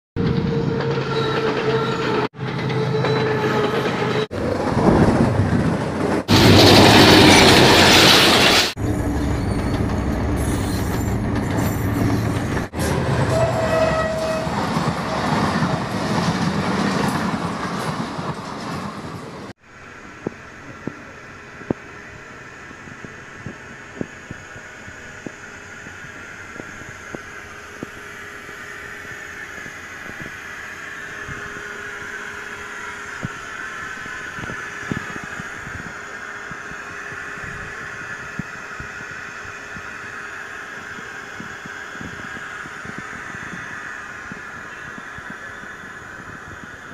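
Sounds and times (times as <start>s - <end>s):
locomotives passing on track: 0.2s - 46.9s.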